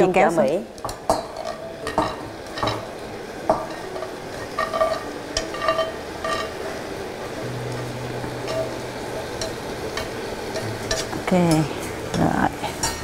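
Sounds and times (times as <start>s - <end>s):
sauce sizzling: 0.0s - 13.0s.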